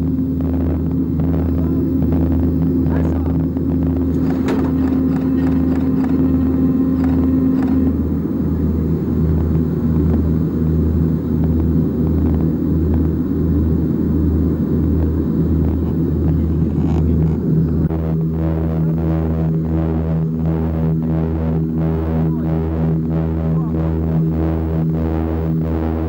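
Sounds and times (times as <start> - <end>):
aircraft engine and propeller drone: 0.0 - 26.0
steady hum: 0.0 - 26.0.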